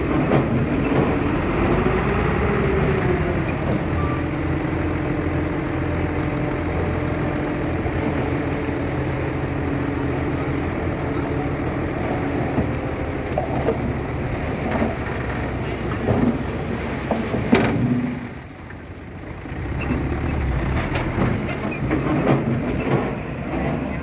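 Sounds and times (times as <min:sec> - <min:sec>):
diesel engine revving and droning: 0:00.0 - 0:18.5, 0:19.2 - 0:24.0.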